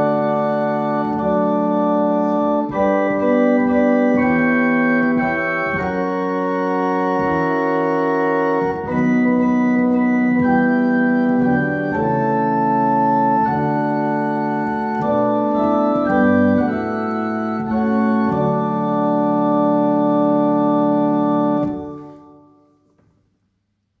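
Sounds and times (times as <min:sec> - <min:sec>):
organ playing hymn chords: 0:00.0 - 0:22.9.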